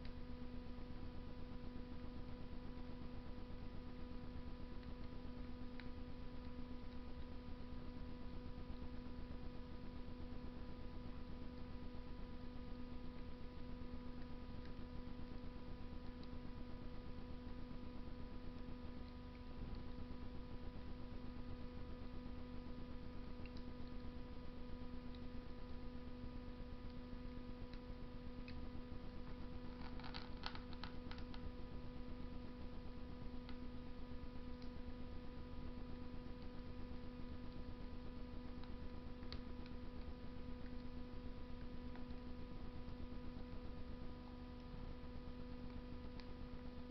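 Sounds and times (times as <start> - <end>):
stove hum and hiss: 0.0 - 46.9
wood fire crackles and snaps: 0.0 - 46.9.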